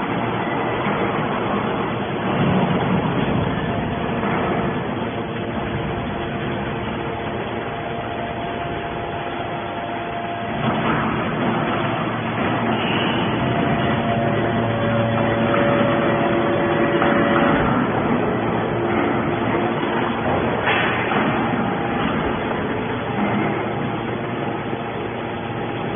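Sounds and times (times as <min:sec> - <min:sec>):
hydraulic baler humming: 0:00.0 - 0:25.9.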